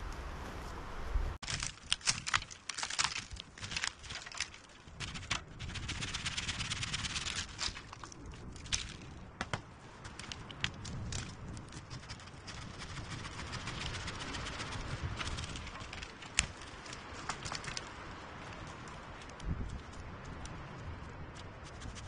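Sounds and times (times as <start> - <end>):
pole dragged through dry debris: 1.4 - 19.6
twigs and branches snapping: 1.4 - 22.0.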